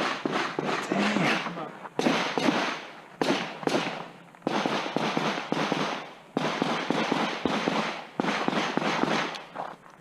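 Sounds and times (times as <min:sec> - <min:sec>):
pistol shots echoing: 0:00.0 - 0:09.4.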